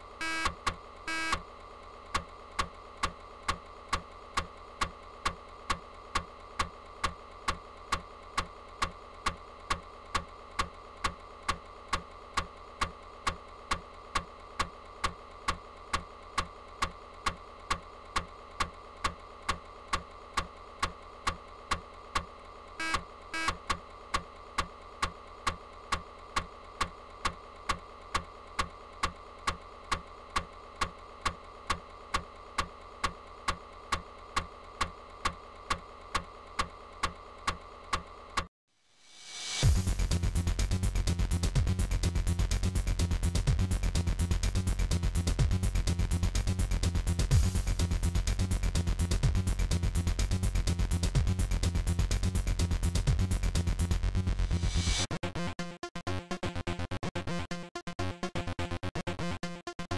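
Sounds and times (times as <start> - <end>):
constant hum: 0.0 - 38.4, 39.4 - 55.1.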